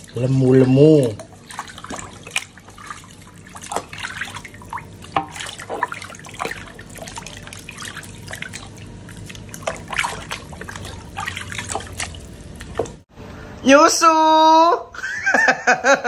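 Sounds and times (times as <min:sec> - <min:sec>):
water splashing and dripping: 0:00.0 - 0:13.1.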